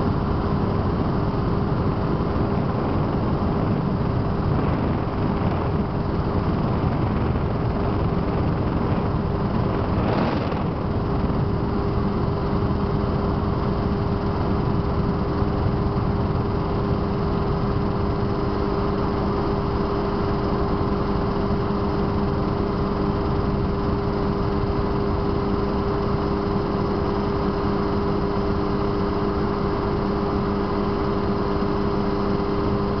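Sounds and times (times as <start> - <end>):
helicopter engine and rotors droning: 0.0 - 33.0.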